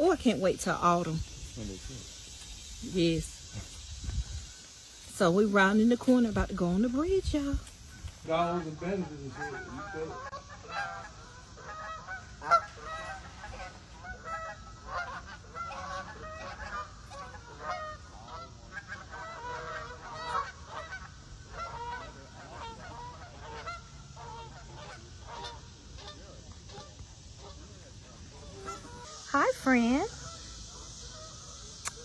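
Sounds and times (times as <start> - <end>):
geese honking: 4.6 - 32.0.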